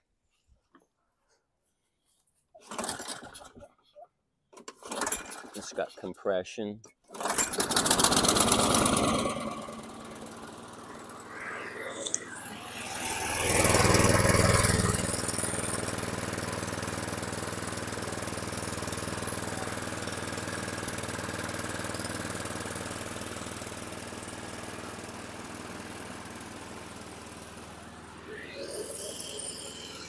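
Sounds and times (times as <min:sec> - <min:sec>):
lawn mower engine: 0:02.6 - 0:03.6, 0:04.6 - 0:05.7, 0:07.1 - 0:30.0.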